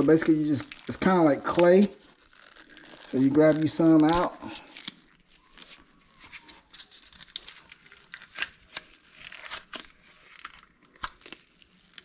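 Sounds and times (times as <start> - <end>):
putty crinkling and rustling: 0.0 - 12.0.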